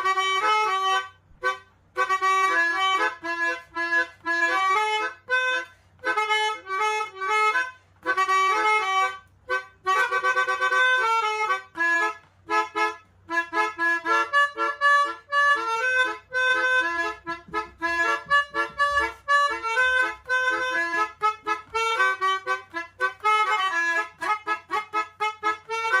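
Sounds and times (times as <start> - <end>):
melodica playing lively melody: 0.0 - 26.0.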